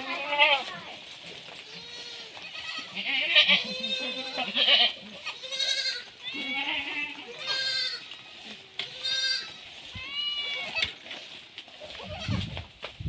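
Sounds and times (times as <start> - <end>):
goats bleating: 0.0 - 12.7.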